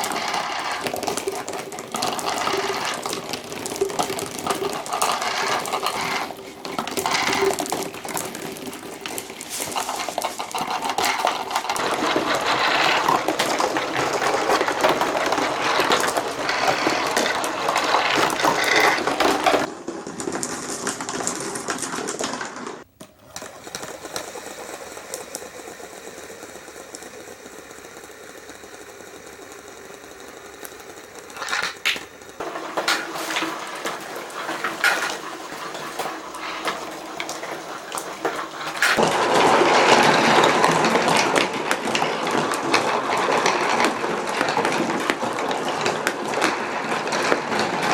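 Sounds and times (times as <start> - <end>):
glass marbles rattling through marble run: 0.0 - 19.7, 23.2 - 47.9.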